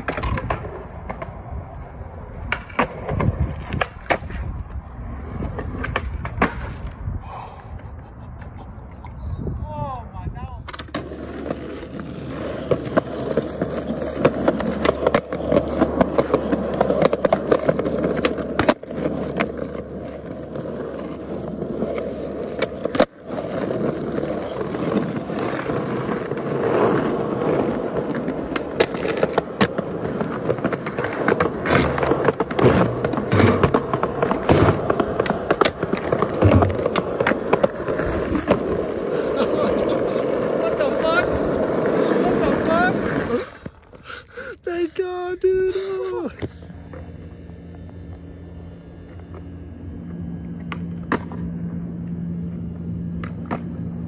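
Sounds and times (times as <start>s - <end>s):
skateboard clacks: 0.0s - 9.2s, 10.6s - 43.9s, 49.0s - 54.0s
skateboard wheels rolling: 0.0s - 54.0s.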